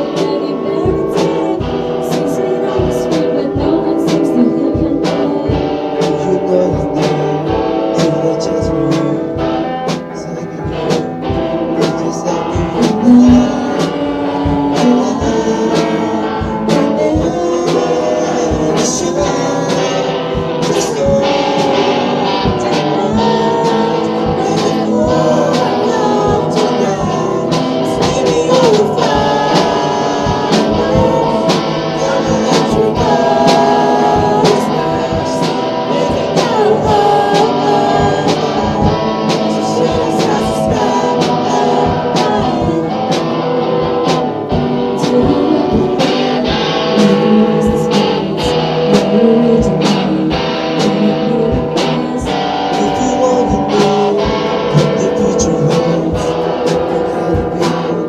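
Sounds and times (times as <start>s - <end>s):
people singing: 0.0s - 58.0s
strummed guitar: 0.0s - 58.0s.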